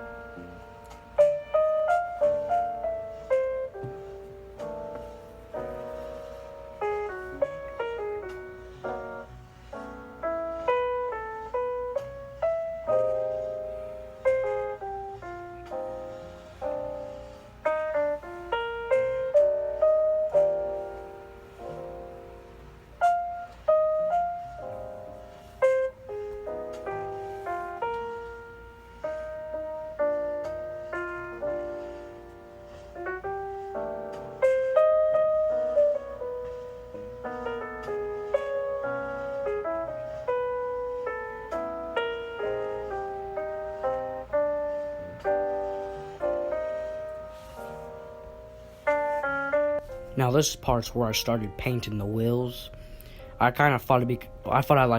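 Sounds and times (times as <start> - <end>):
piano melody: 0.0 - 54.9.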